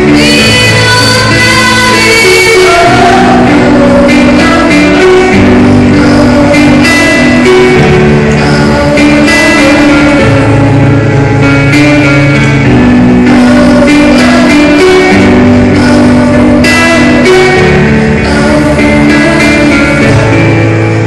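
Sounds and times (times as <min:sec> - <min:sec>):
woman singing into microphone: 0:00.0 - 0:12.4, 0:13.2 - 0:20.7
amplified backing music: 0:00.0 - 0:21.0.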